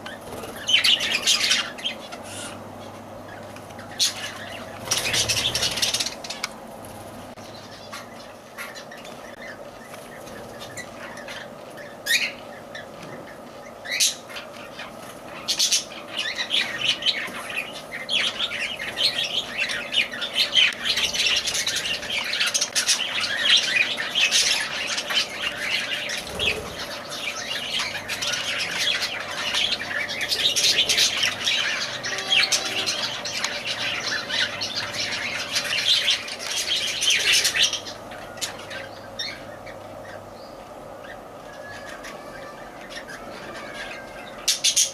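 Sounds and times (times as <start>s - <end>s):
lovebirds squawking: 0.0s - 44.9s.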